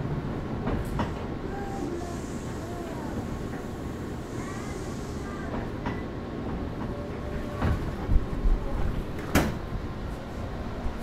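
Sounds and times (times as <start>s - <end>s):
train rumble on board: 0.0s - 11.0s.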